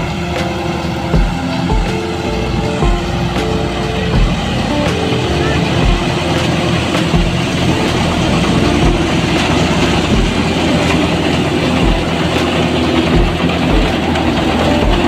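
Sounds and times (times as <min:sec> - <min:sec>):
low bumps: 0:00.0 - 0:15.0
thresher whirring and rattling: 0:00.0 - 0:15.0
tractor diesel engine running: 0:00.0 - 0:15.0.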